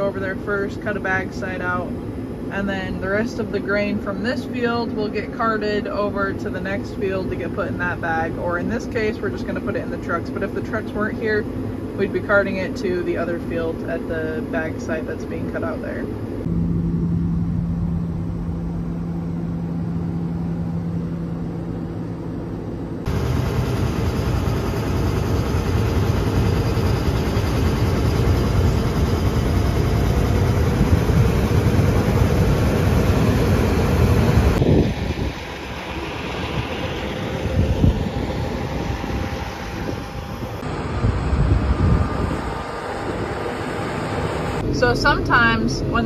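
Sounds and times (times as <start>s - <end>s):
combine harvester running: 0.0s - 46.0s
tractor engine drone: 0.0s - 46.0s
wind: 0.0s - 46.0s.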